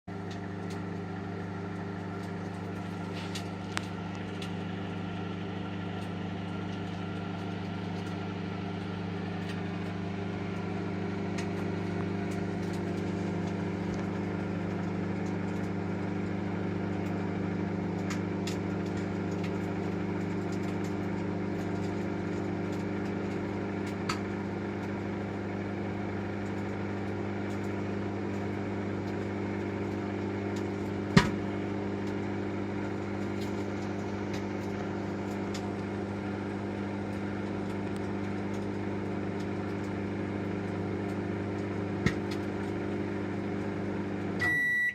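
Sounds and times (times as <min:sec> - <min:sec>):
microwave oven humming: 0:00.1 - 0:44.9.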